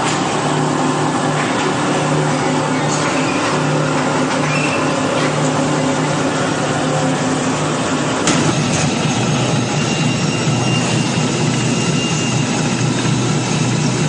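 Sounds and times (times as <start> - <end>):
roll-forming machine running: 0.0 - 14.0.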